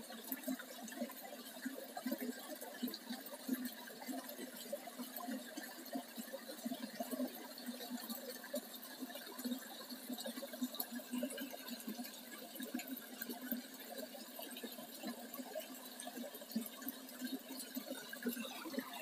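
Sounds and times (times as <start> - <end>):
stream splashing into a pool: 2.0 - 19.0.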